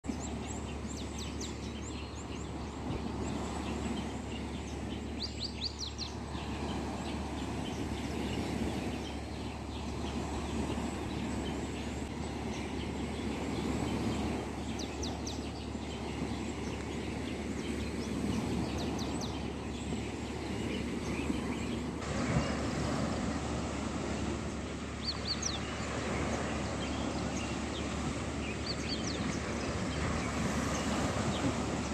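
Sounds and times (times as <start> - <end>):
birds chirping: 0.0 - 31.9
small waves washing on shore: 0.0 - 31.9.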